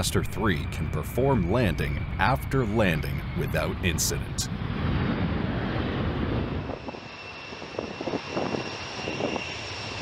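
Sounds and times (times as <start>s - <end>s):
jet engine rumble: 0.0s - 10.0s
jet turbine whine: 0.0s - 10.0s.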